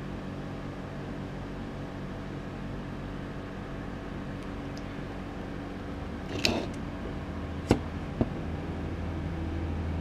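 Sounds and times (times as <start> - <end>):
equipment humming: 0.0 - 10.0.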